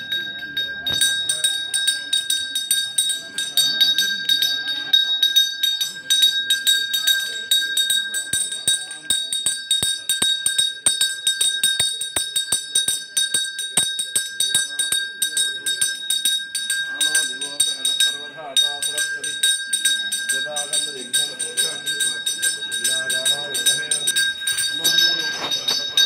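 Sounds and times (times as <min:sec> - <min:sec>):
small bell rung rapidly: 0:00.0 - 0:26.0.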